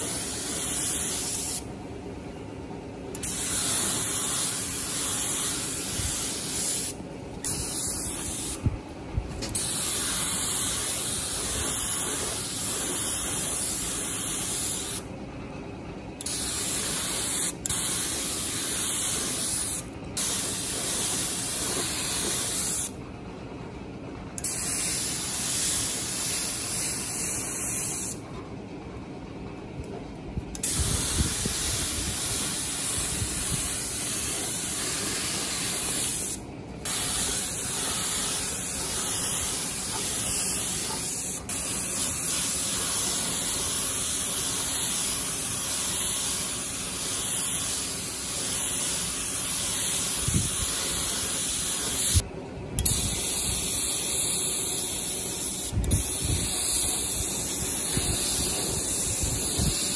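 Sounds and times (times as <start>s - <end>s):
pressurised spray hissing: 0.0s - 1.7s, 3.2s - 8.7s, 9.4s - 15.1s, 16.2s - 23.0s, 24.4s - 28.2s, 30.6s - 52.2s, 52.8s - 59.9s.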